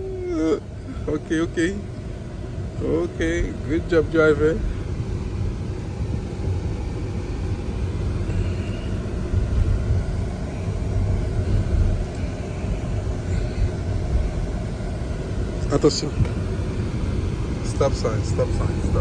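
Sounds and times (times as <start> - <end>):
road and tyre rumble in car: 0.0 - 19.0.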